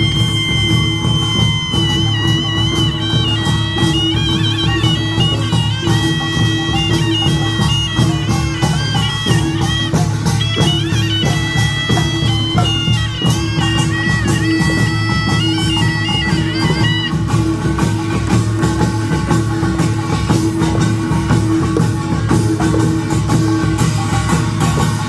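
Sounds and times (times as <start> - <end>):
shawm playing reedy melody: 0.0 - 25.0
small gongs and drums beating: 0.0 - 25.0.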